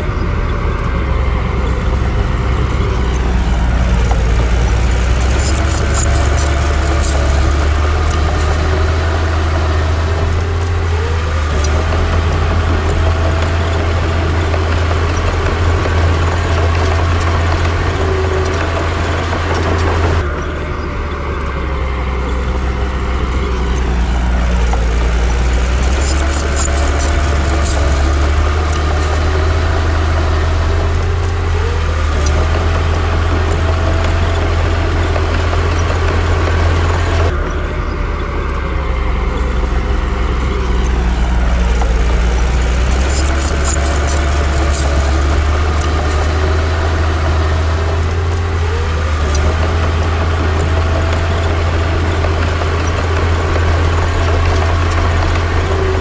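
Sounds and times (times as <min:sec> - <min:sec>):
metallic clicks and clanks: 0:00.0 - 0:37.6, 0:38.2 - 0:56.0
bulldozer diesel engine revving: 0:00.0 - 0:56.0.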